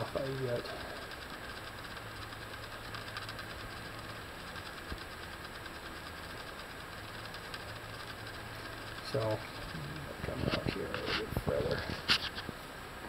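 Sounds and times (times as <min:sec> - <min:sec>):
metal lathe running: 0:00.0 - 0:12.4.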